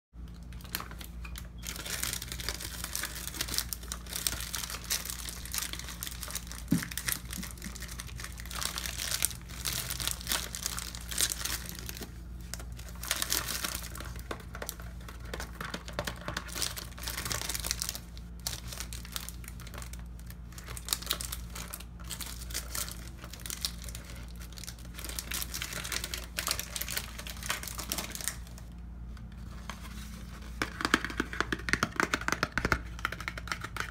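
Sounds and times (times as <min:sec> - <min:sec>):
cardboard box crinkling: 0:00.6 - 0:28.6.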